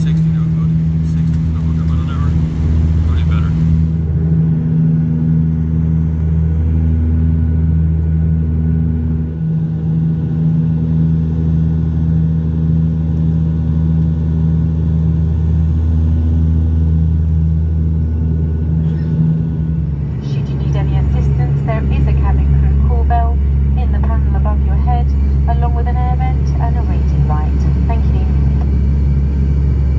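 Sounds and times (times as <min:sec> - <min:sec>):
turboprop cabin drone: 0:00.0 - 0:29.9.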